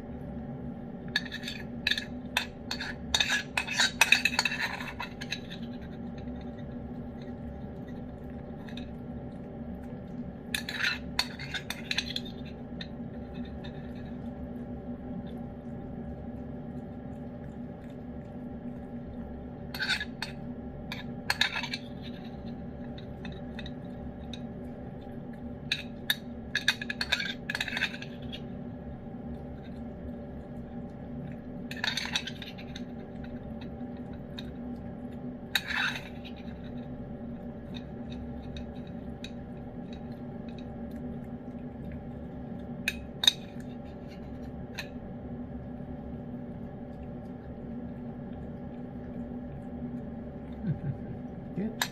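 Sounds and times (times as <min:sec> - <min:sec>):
steady low hum: 0:00.0 - 0:51.9
cats eating from dishes: 0:00.1 - 0:51.9.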